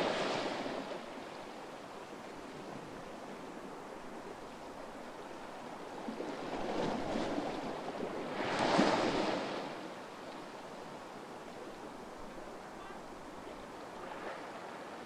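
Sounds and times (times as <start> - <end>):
small waves on a sandy beach: 0.0 - 15.0.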